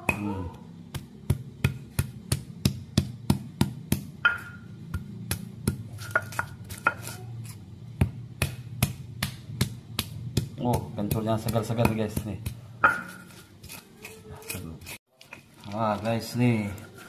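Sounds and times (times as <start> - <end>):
stone pestle pounding in mortar: 0.0 - 15.5.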